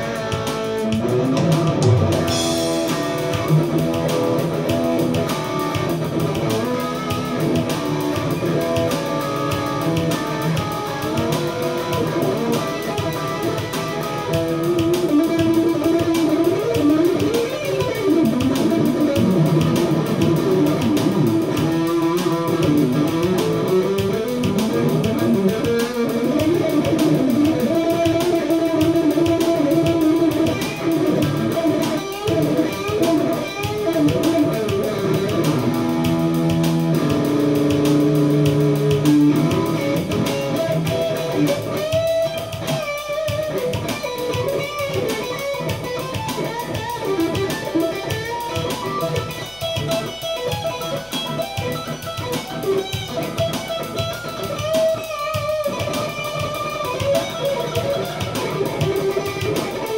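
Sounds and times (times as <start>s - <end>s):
electric guitar lead line: 0.0s - 59.9s
steady beat: 0.0s - 59.9s.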